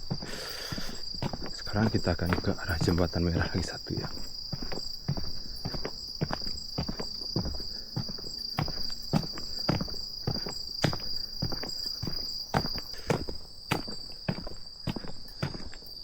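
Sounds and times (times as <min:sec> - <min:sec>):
footsteps walking: 0:00.0 - 0:16.0
high-pitched insect trilling: 0:00.0 - 0:16.0.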